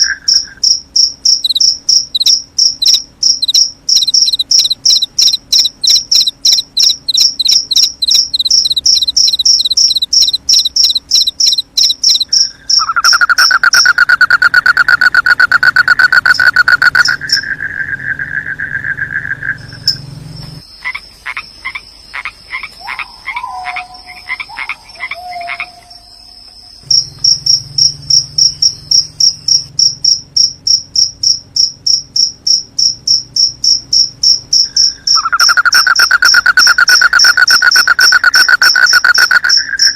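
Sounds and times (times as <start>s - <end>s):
crickets chirping: 0.0s - 39.9s
frog calls: 0.0s - 39.9s.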